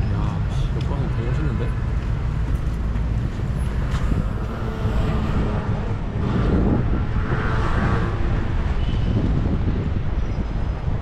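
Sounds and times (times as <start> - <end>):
low rumble of passing traffic: 0.0 - 11.0
wind buffeting the microphone: 0.0 - 11.0.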